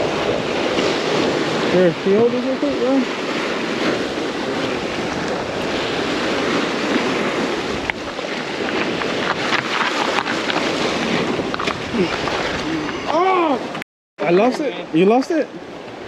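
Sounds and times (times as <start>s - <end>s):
wind buffeting microphone: 0.0s - 13.8s
sea waves breaking on rocks: 0.0s - 16.0s.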